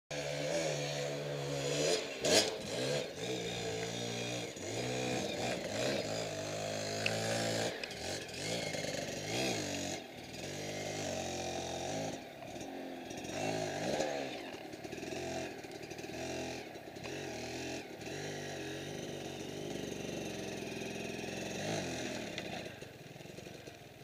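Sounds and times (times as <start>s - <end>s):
dirt bike engine revving: 0.1s - 24.0s.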